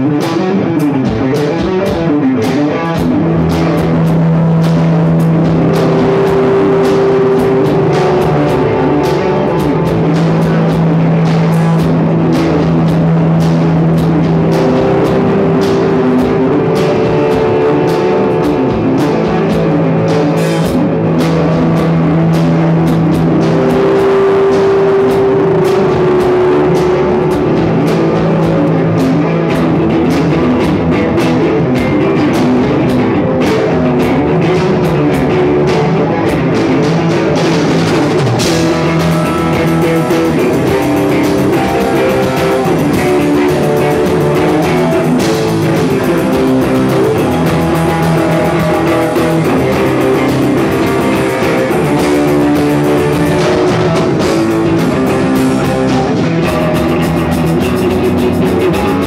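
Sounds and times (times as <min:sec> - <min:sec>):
drum kit: 0:00.0 - 0:59.0
guitar: 0:00.0 - 0:59.0
live rock band: 0:00.0 - 0:59.0.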